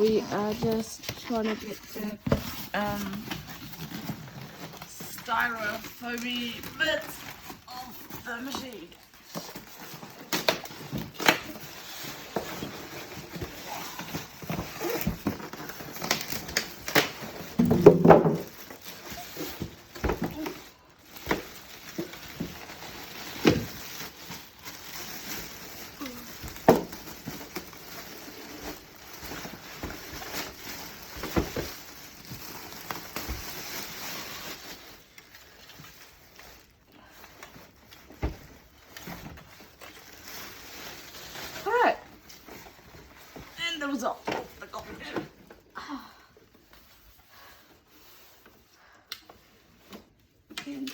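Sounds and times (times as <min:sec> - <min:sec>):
styrofoam rustling and crinkling: 0:00.0 - 0:50.9.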